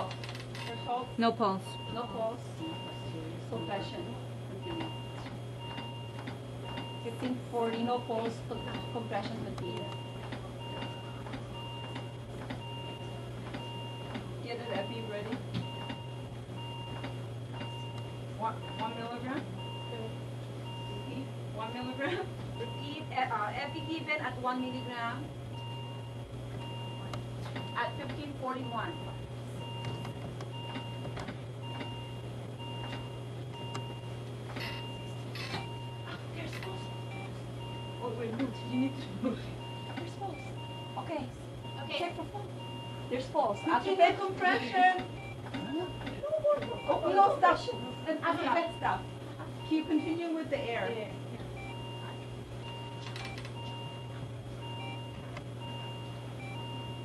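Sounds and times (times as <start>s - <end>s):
medical alarm beeping: 0.0s - 57.0s
steady low hum: 0.0s - 57.0s.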